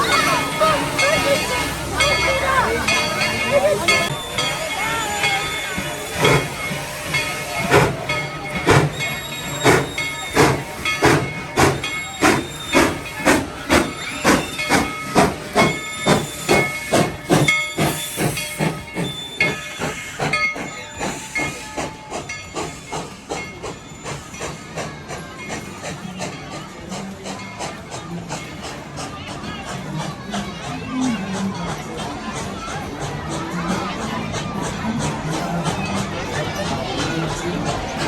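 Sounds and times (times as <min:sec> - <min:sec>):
steam hissing: 0:00.0 - 0:38.0
steam locomotive chuffing: 0:00.0 - 0:38.0.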